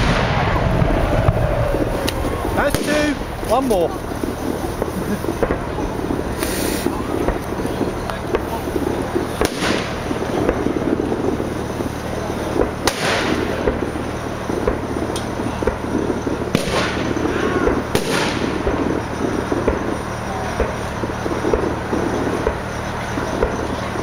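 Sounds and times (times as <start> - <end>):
continuous crackle: 0.0 - 24.0.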